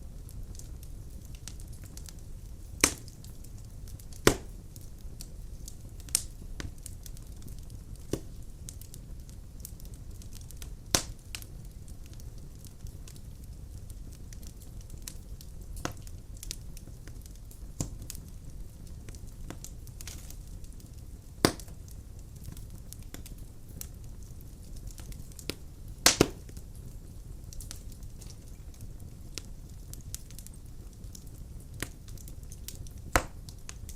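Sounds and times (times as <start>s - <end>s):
fire crackling and popping: 0.0s - 33.9s
fire rumbling in fireplace: 0.0s - 33.9s.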